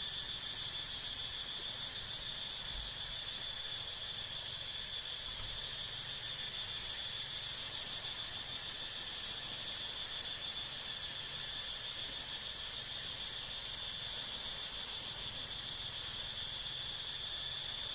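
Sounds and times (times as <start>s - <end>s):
insects trilling: 0.0s - 17.9s.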